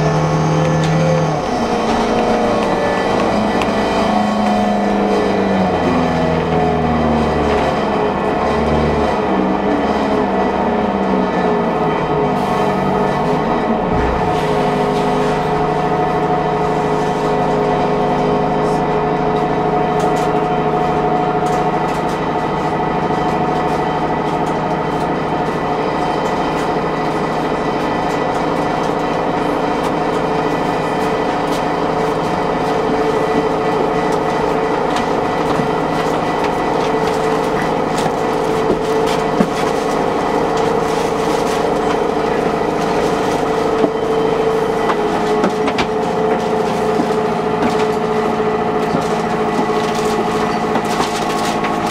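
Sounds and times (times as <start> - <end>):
bus engine rumble and whine: 0.0 - 51.9.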